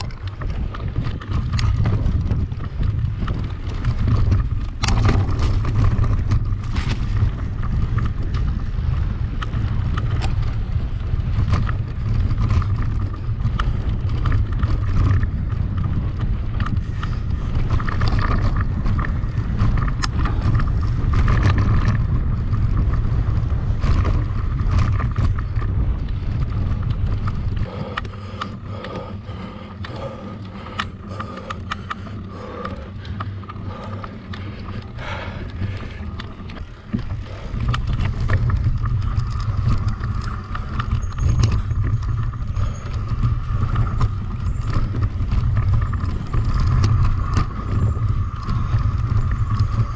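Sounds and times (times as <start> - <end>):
bike clattering over bumps: 0.0 - 49.9
wind rumble on microphone: 0.0 - 49.9.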